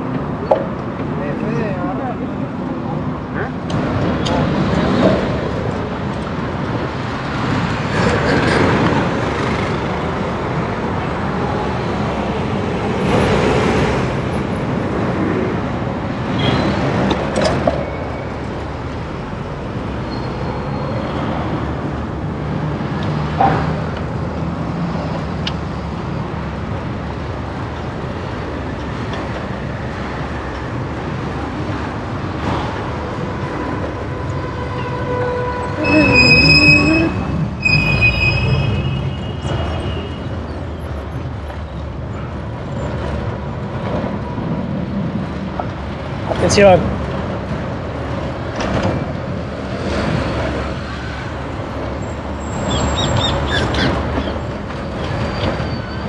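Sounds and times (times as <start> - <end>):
traffic road noise rumble: 0.0 - 56.0
vehicles passing by: 0.0 - 56.0.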